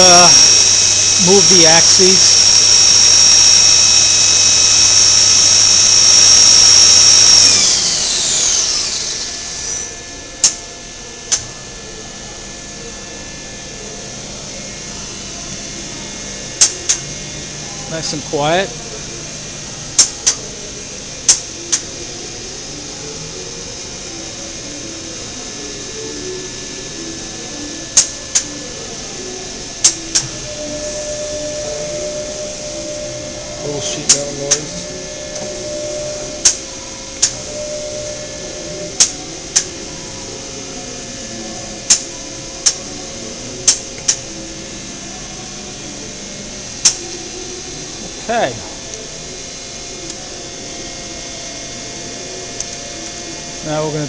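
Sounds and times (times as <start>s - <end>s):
faint machine whine: 0.0s - 54.0s
machine table humming: 0.0s - 54.0s.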